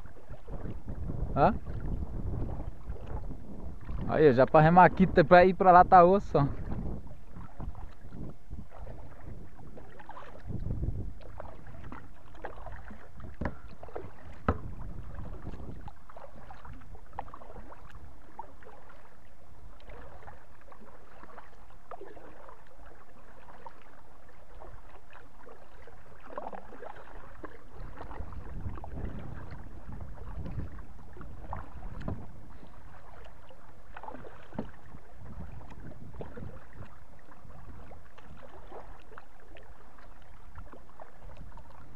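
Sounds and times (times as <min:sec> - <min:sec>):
paddle splashing in water: 0:00.0 - 0:41.9.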